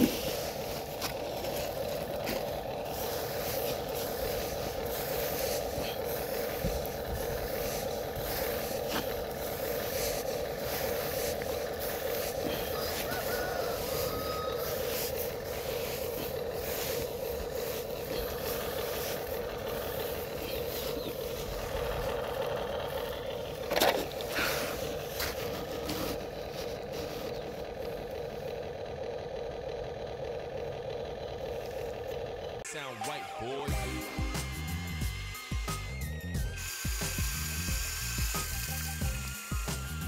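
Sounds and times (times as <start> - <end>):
toy excavator motor humming: 0.0 - 32.7, 33.7 - 40.0.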